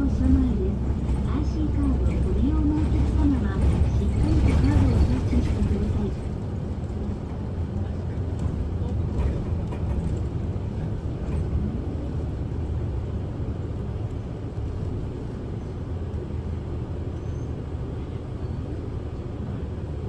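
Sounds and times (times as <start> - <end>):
bus engine low rumble: 0.0 - 20.0.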